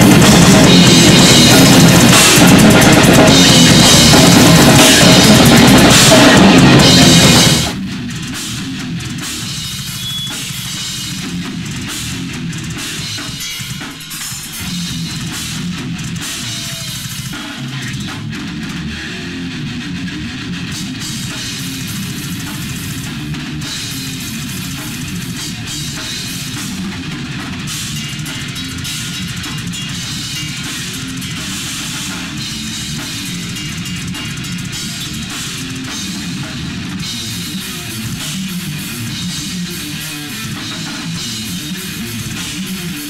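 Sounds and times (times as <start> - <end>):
drum kit: 0.0 - 43.0
rock band playing: 0.0 - 43.0.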